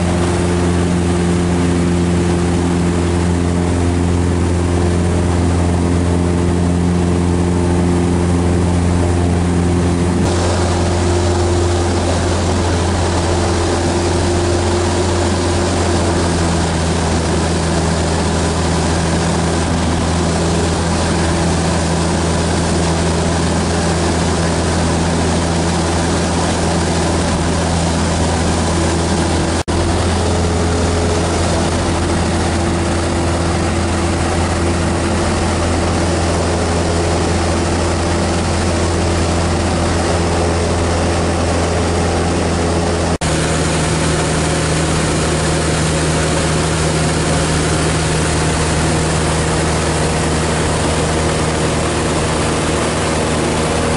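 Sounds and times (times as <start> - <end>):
airplane engine and propeller drone: 0.0 - 53.9.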